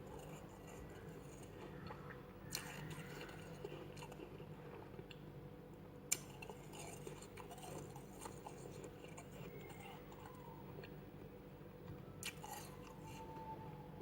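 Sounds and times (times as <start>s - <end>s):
frost being chewed crunching: 0.0s - 5.3s, 6.1s - 11.0s, 12.2s - 13.5s
faint steady hum: 0.0s - 14.0s.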